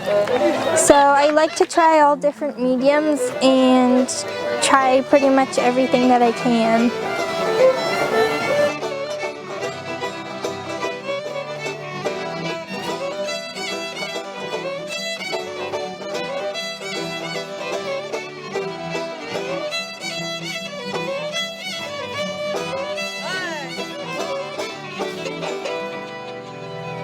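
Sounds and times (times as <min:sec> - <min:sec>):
bluegrass fiddle tune: 0:00.0 - 0:27.0.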